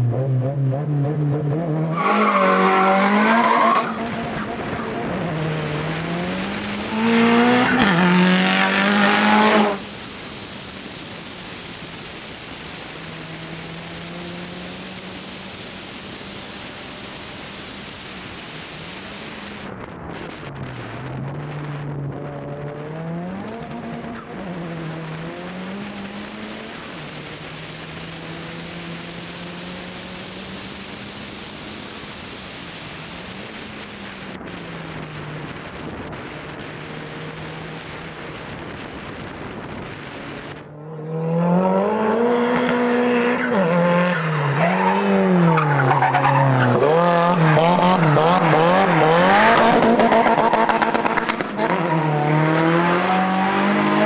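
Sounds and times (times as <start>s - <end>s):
rally car engine revving: 0.0s - 10.6s, 12.6s - 18.0s, 18.8s - 54.0s
wind and road noise: 0.0s - 54.0s.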